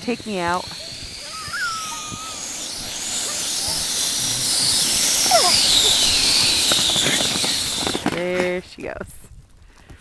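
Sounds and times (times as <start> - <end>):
sled scraping over ice: 0.0 - 9.2.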